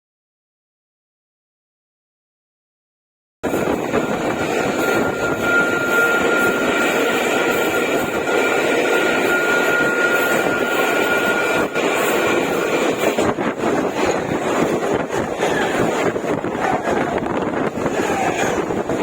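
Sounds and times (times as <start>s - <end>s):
thin steady whine: 3.4s - 19.0s
train wheels rumbling: 3.4s - 19.0s.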